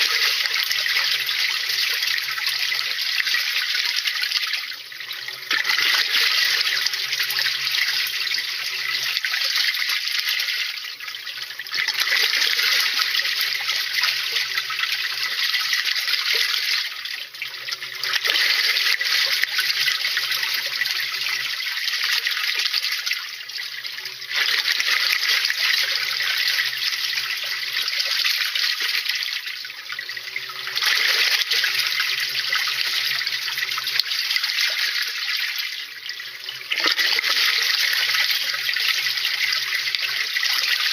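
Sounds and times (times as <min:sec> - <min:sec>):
water splashing in washing machine: 0:00.0 - 0:40.9.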